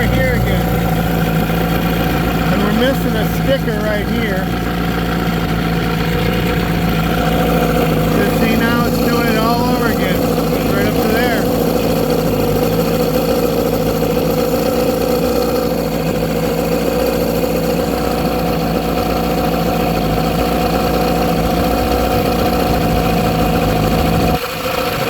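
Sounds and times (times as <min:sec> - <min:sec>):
outboard motor idling: 0:00.0 - 0:25.0.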